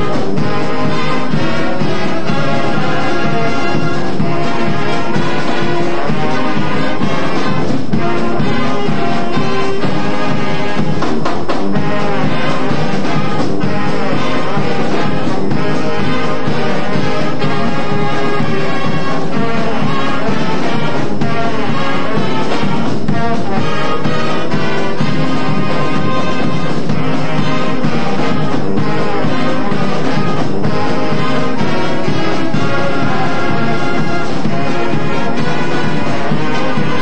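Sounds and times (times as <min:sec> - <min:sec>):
marching band playing brass: 0:00.0 - 0:37.0.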